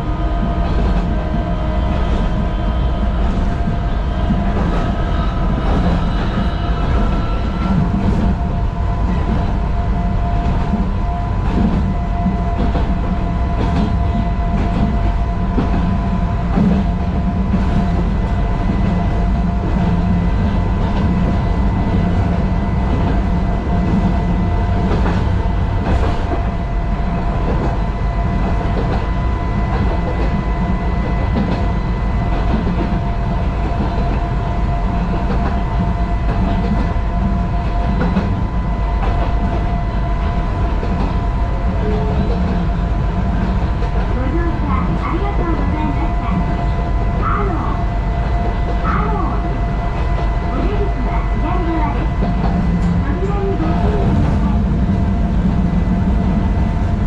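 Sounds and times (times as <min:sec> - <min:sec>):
steady whine: 0:00.0 - 0:57.0
train rumbling: 0:00.0 - 0:57.0.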